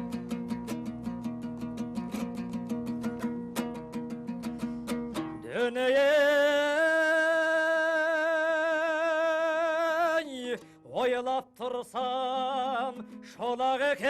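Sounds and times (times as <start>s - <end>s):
plucked string accompaniment: 0.0s - 9.2s, 9.9s - 14.0s.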